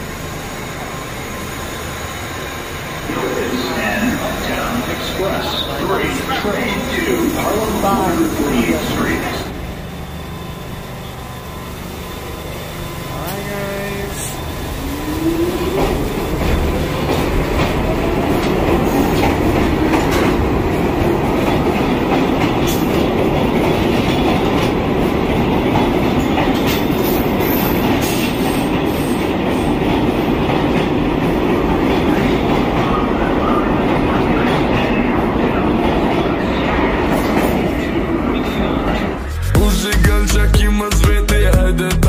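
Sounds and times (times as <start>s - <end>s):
subway train motors whining: 0.0s - 41.9s
train rumbling: 0.0s - 42.0s.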